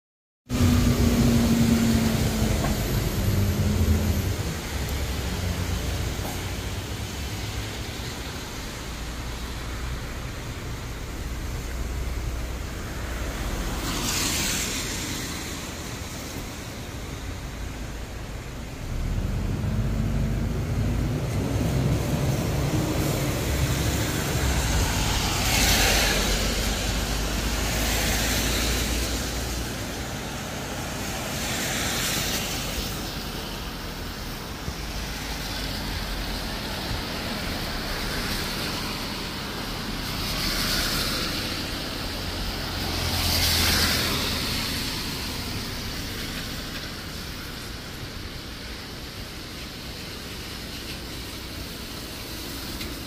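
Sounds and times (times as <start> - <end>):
background wash: 0.5 - 53.0
cars passing on wet road: 0.5 - 53.0.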